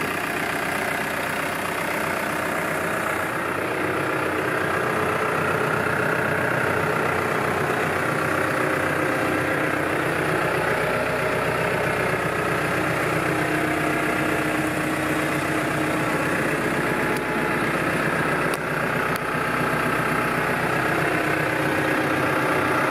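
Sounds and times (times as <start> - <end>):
tractor diesel engine idling: 0.0 - 22.9.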